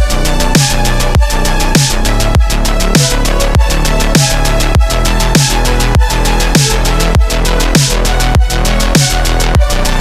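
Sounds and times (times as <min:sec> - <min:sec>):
electronic music with heavy beat: 0:00.0 - 0:10.0.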